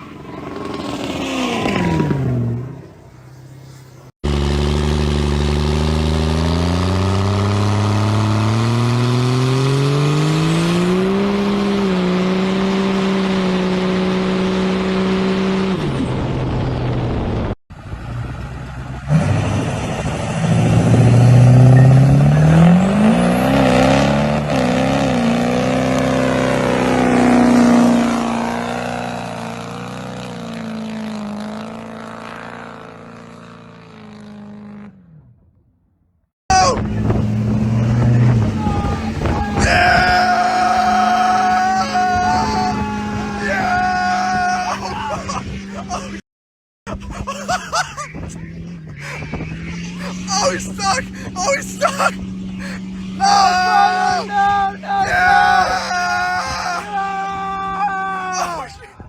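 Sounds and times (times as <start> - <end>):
diesel truck engine revving: 0.0 - 35.5, 36.6 - 46.2, 46.9 - 56.5
diesel truck engine accelerating: 0.0 - 46.2, 46.9 - 59.0.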